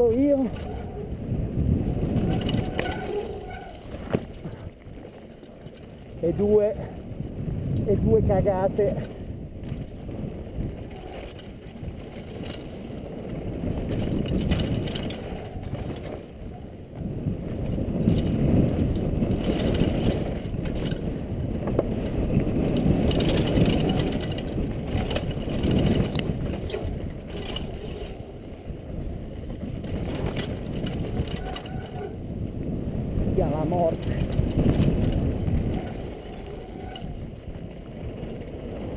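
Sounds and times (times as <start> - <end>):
bike rattling over rocks: 0.0 - 38.9.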